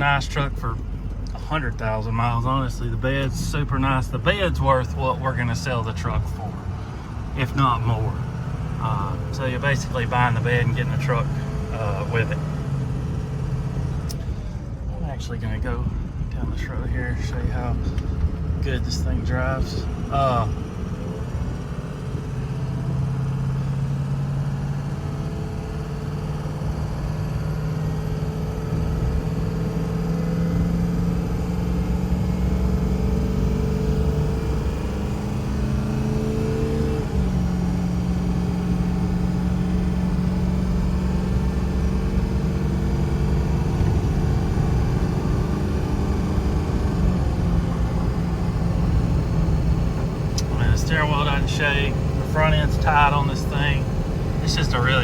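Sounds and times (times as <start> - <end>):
truck engine accelerating through gears: 0.0 - 55.0.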